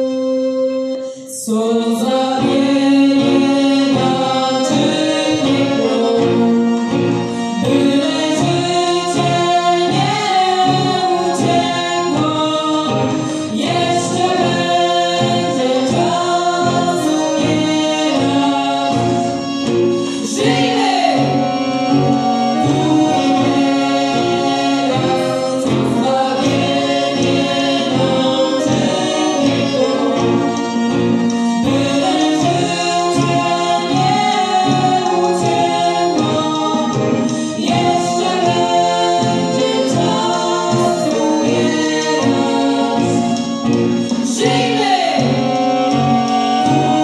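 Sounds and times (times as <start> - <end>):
accordion: 0.0 - 47.0
acoustic guitar: 0.0 - 47.0
brass horn: 0.0 - 47.0
people singing together: 1.3 - 47.0.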